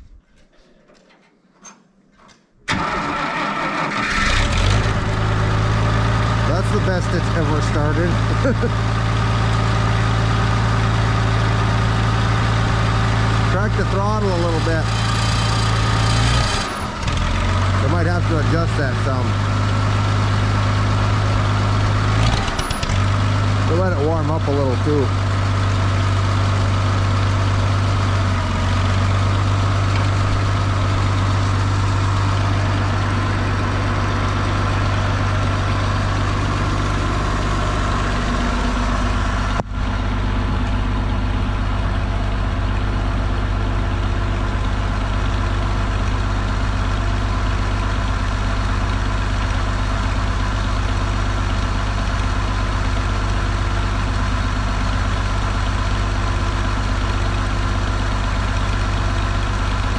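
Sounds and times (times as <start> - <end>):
tractor engine idling: 2.7 - 59.9.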